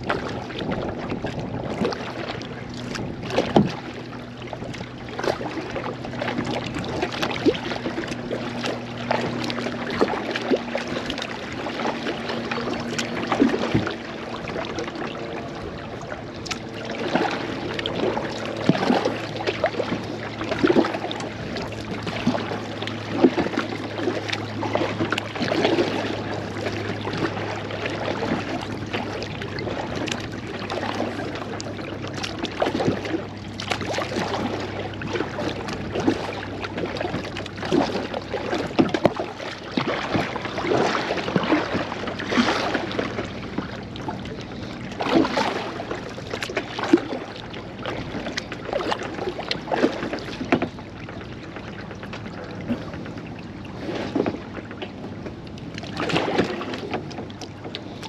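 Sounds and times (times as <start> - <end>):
kayak paddle splashing: 0.0 - 58.0
water lapping against hull: 0.0 - 58.0.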